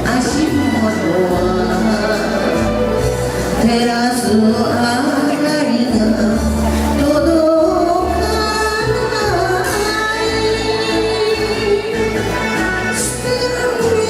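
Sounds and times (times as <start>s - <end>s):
instrumental accompaniment: 0.0s - 14.0s
woman singing: 0.0s - 14.0s.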